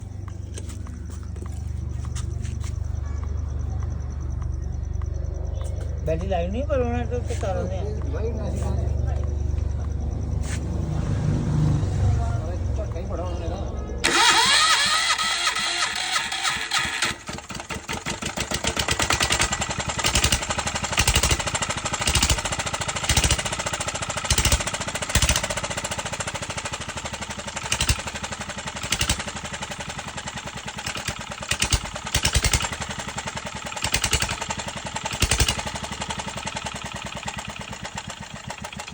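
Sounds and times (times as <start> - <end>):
engine starting and running unevenly: 0.0 - 38.9.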